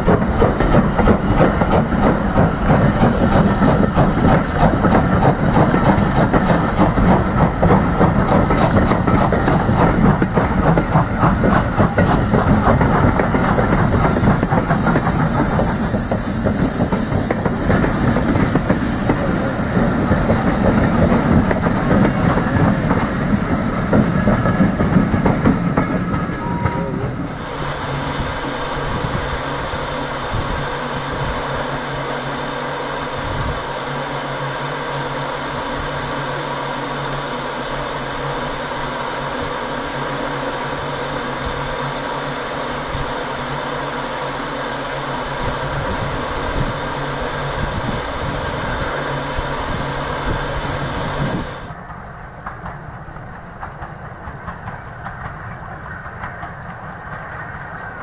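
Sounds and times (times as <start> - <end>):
steam hissing from locomotive: 0.0 - 51.8.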